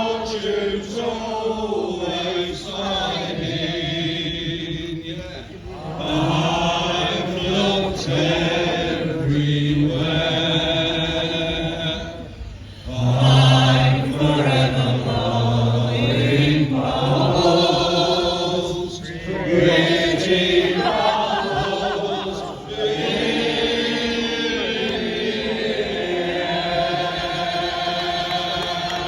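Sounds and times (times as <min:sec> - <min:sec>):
voices singing together: 0:00.0 - 0:29.0.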